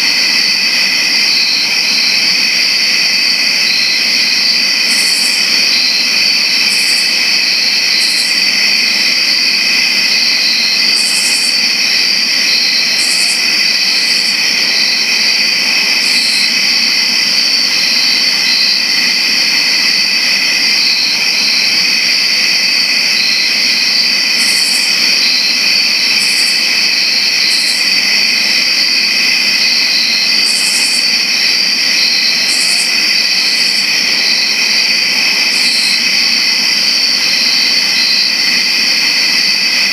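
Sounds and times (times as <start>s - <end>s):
crickets chirping: 0.0s - 39.9s
higher cricket chirps: 0.0s - 39.9s.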